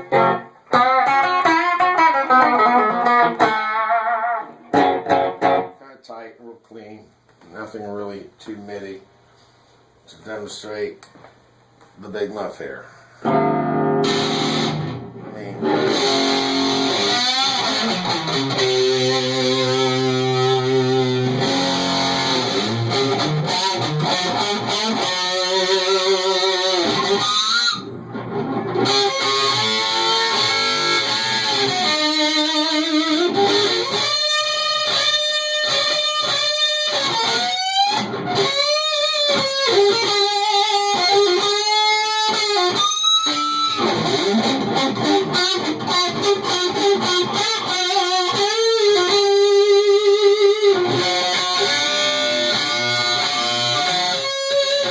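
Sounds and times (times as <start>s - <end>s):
fuzz electric guitar lead: 0.0s - 5.8s, 13.2s - 54.9s.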